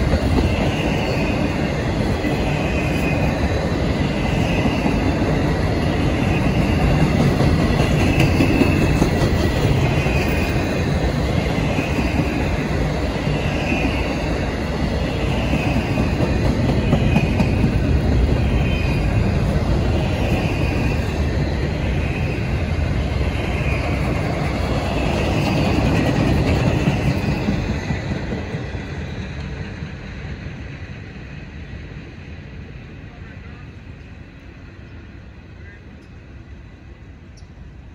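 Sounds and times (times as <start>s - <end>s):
high ringing of train wheels: 0.0s - 32.9s
freight train wheels rumbling: 0.0s - 37.9s.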